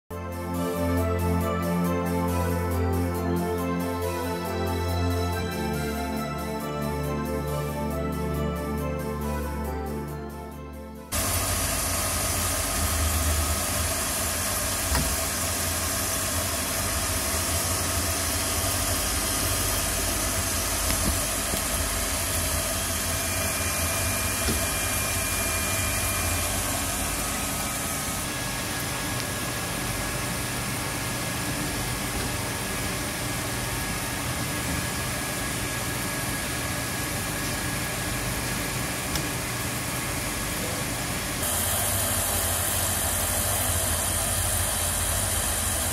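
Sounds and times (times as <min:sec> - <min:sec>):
grinding machine humming: 0:00.2 - 0:45.9.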